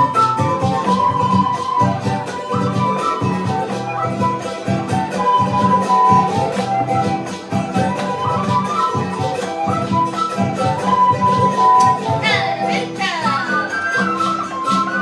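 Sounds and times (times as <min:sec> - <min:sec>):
folk melody: 0:00.0 - 0:15.0
strummed strings: 0:00.0 - 0:15.0.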